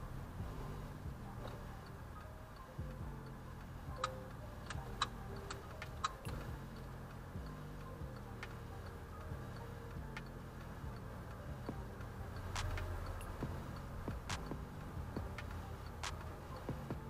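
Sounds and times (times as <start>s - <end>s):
car engine hum: 0.0s - 17.0s
sharp ticks and clicks: 1.1s - 17.0s.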